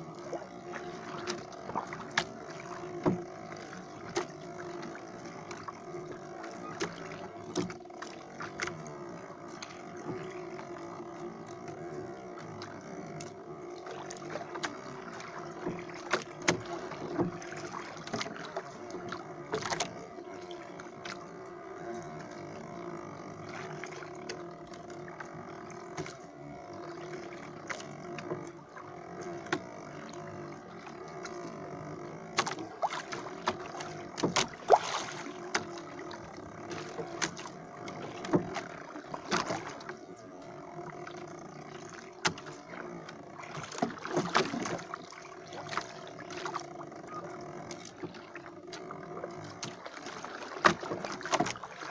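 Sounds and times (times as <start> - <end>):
low machine hum: 0.0 - 51.9
knocks and clicks on wooden boat: 0.2 - 51.9.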